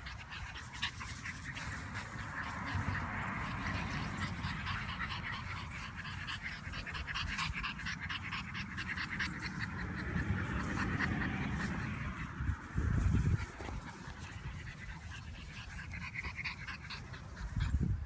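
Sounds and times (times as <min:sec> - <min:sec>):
puppy panting: 0:00.0 - 0:18.0.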